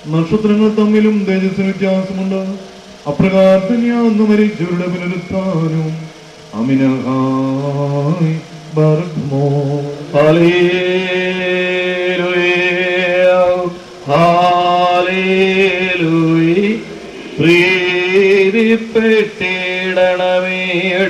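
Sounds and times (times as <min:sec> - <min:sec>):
men chanting a hymn: 0:03.0 - 0:21.0.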